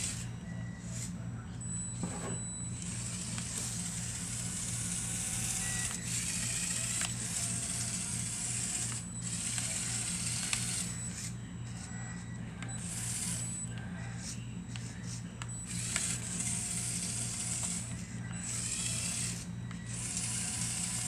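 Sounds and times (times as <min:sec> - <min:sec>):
small electric motors whirring: 0:00.0 - 0:21.0
steady low hum: 0:00.0 - 0:21.0.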